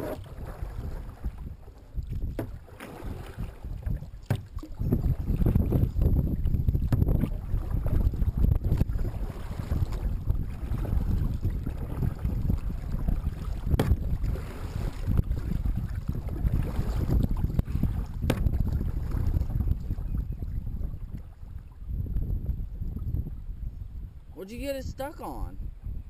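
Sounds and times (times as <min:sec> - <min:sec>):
kayak paddle strokes in water: 0:00.0 - 0:21.8
wind rumble on microphone: 0:00.0 - 0:26.0.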